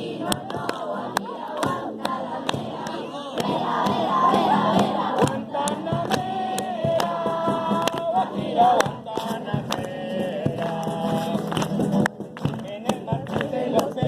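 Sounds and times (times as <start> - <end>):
group of voices singing: 0.0 - 14.0
sharp clapping beat: 0.0 - 14.0.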